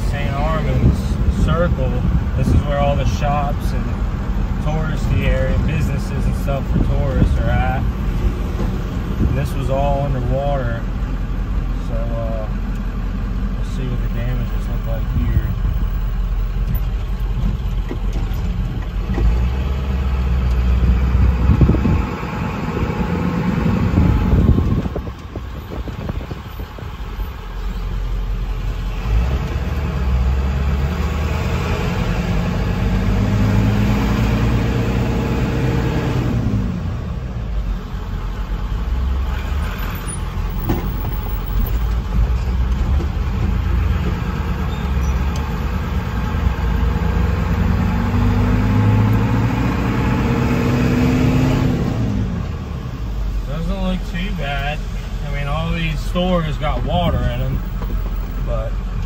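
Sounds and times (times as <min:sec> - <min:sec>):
road and tyre noise: 0:00.0 - 0:59.0
truck engine accelerating: 0:00.0 - 0:59.0.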